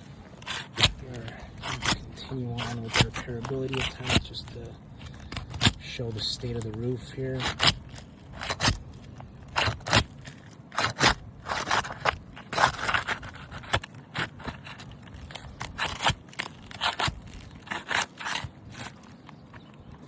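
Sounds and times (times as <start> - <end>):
metal tool scraping under shingles: 0.0 - 19.7
brittle shingles crunching: 0.0 - 20.0.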